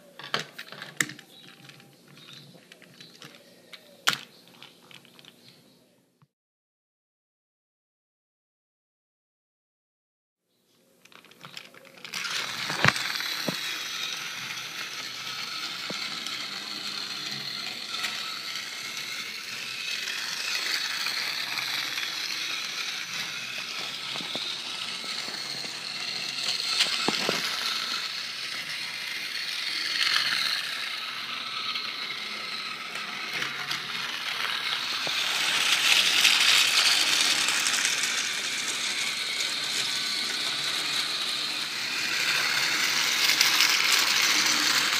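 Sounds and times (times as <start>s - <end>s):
toy train motor whirring: 0.0s - 5.4s, 11.0s - 44.9s.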